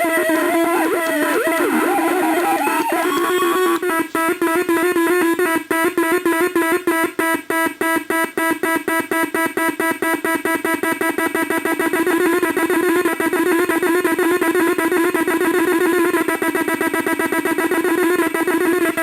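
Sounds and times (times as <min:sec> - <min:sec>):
pulsed electronic beeps: 0:00.0 - 0:19.0.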